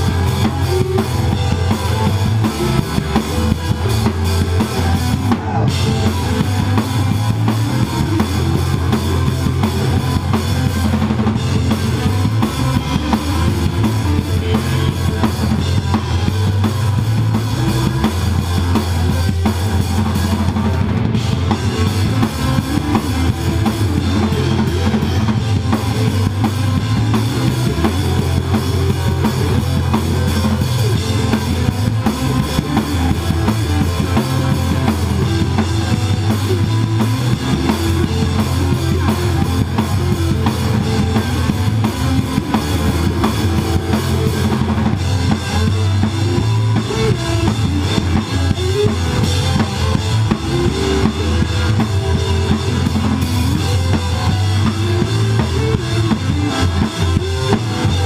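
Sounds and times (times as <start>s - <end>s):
drums with cymbals: 0.0s - 58.0s
live rock band: 0.0s - 58.0s.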